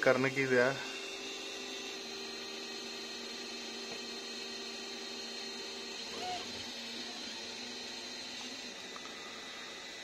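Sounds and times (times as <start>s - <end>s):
printer fans and motors humming: 0.0s - 10.0s.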